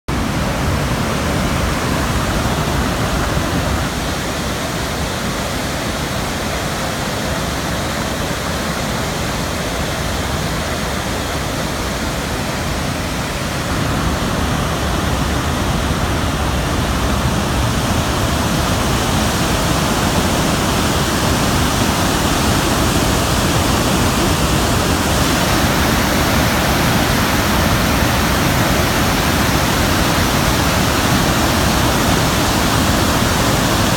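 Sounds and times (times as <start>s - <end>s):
water rushing over dam spillway: 0.1s - 33.9s.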